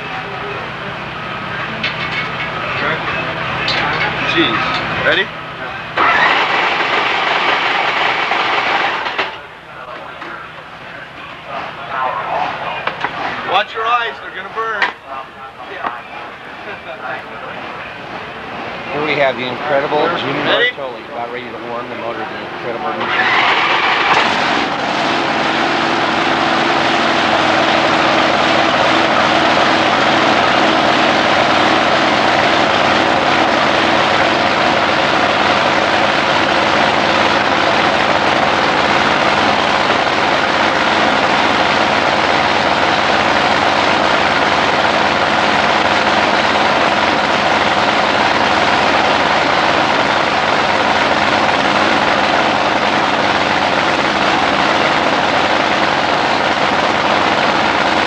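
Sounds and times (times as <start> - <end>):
racing boat engine running: 0.0 - 58.0.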